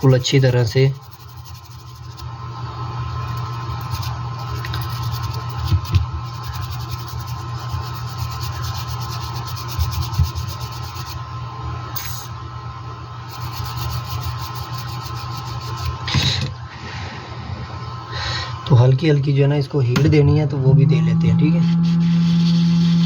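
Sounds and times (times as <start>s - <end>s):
hot-air blower running: 2.0s - 18.8s, 19.9s - 23.0s.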